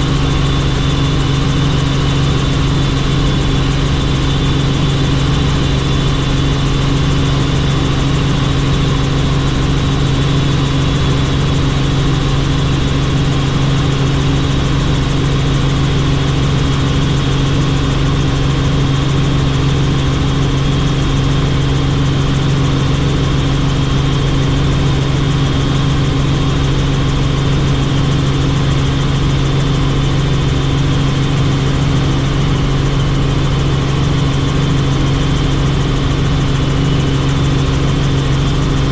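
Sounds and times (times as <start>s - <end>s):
helicopter engine and rotors running: 0.0s - 38.9s.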